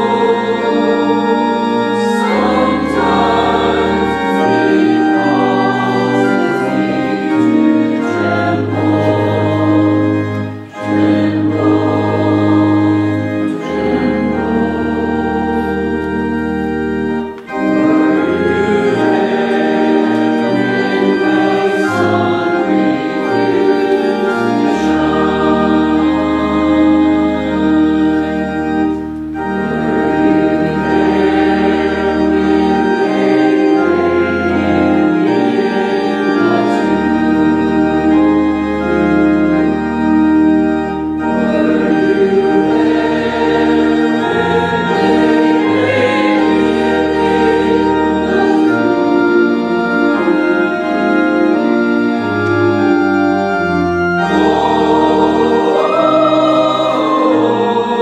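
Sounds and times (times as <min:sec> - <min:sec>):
congregation singing: 0:00.0 - 0:58.0
organ playing a hymn: 0:00.0 - 0:58.0.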